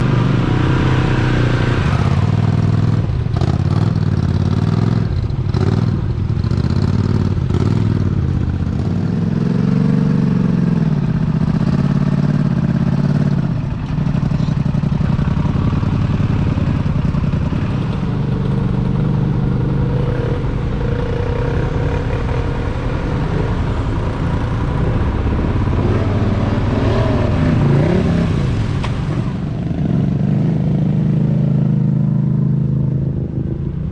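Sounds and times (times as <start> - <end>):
truck engine revving: 0.0 - 31.8.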